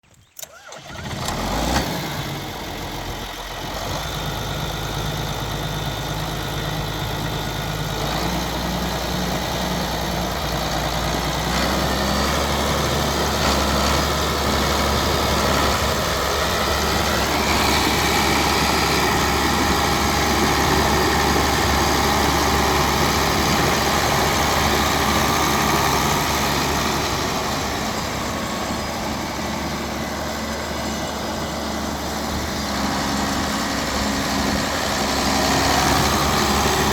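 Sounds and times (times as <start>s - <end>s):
tractor diesel engine idling: 0.4s - 36.9s.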